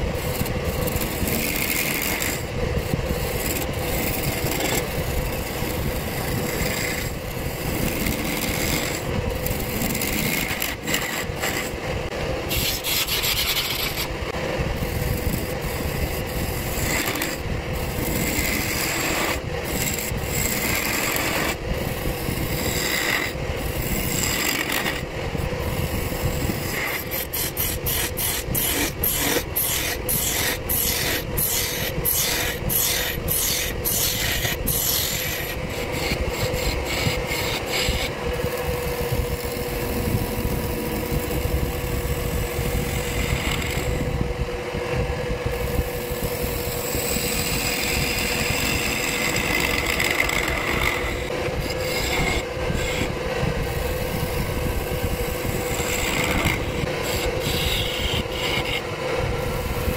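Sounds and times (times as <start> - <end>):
chisel scraping spinning wood: 0.0 - 59.9.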